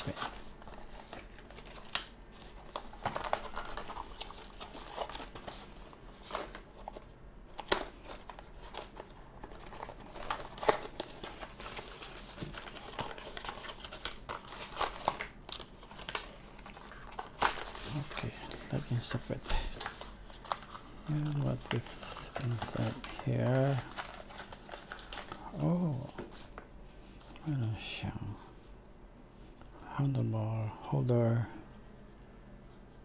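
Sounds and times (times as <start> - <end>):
packaging crinkling and rustling: 0.0 - 27.6.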